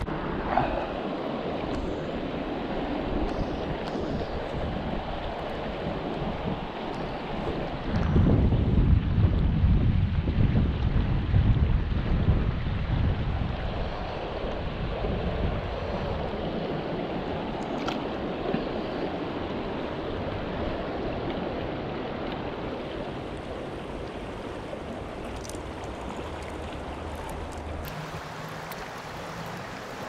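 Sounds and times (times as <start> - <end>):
creek water rushing over rocks: 0.0 - 30.0
wind buffeting microphone: 0.0 - 30.0.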